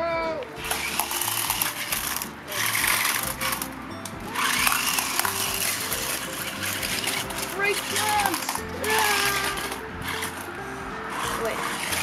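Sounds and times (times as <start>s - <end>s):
background music: 0.0s - 12.0s
rc car motors whirring: 0.5s - 12.0s.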